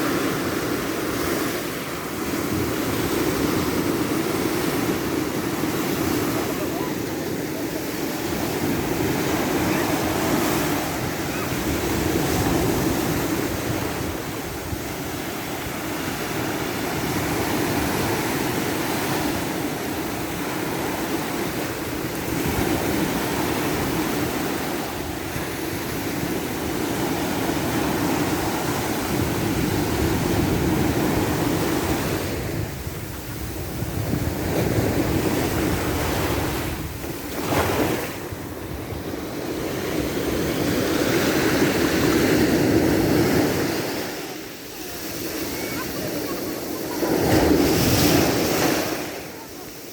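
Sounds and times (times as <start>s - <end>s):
ocean surf washing ashore: 0.0s - 49.9s
wind buffeting microphone: 2.2s - 44.1s.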